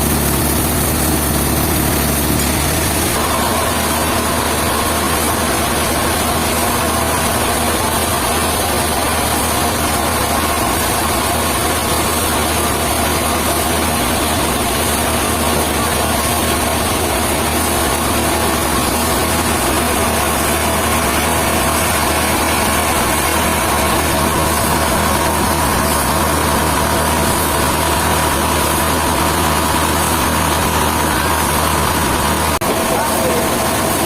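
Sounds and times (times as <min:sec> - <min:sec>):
engine drone: 0:00.0 - 0:34.0
high machine whine: 0:00.0 - 0:34.0.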